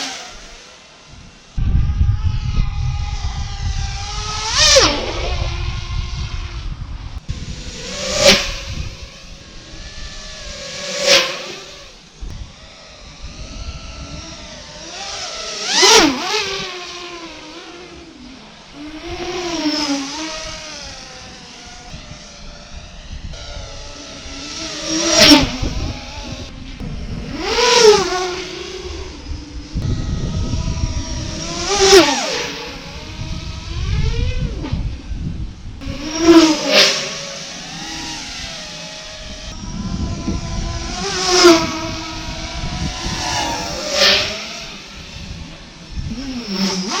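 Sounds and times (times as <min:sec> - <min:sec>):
drone motors whining: 0:00.0 - 0:47.0.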